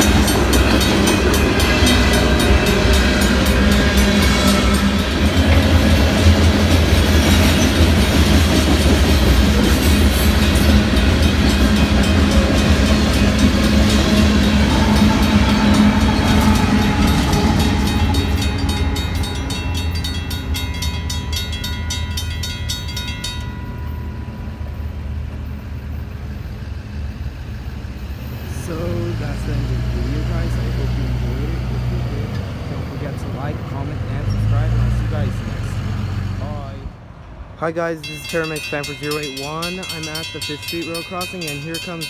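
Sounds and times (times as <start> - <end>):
crossing bell ringing: 0.0 - 26.8, 28.6 - 35.8, 37.6 - 42.0
freight train wheels rumbling: 0.0 - 42.0
locomotive passing: 0.0 - 42.0.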